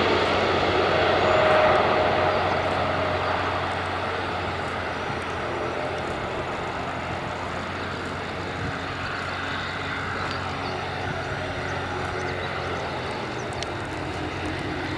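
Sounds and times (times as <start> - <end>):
jet engine noise: 0.0 - 14.9.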